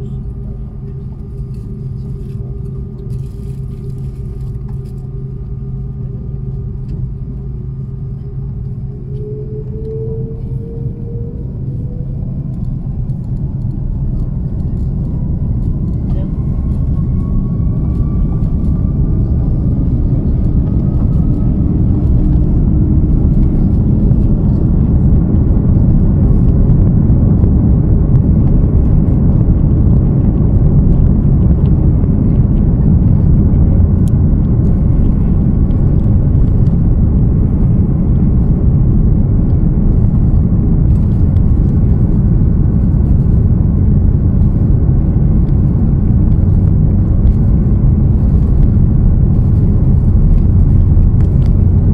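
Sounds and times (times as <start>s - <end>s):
faint rising engine whine: 0.0s - 51.9s
jet engine rumble in cabin: 0.0s - 51.9s.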